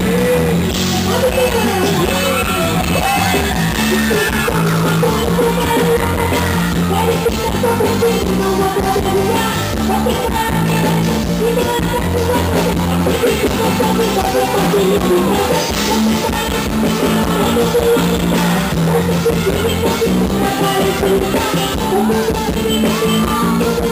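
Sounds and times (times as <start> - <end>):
live band playing: 0.0 - 23.9
repeating bass line: 0.0 - 23.9.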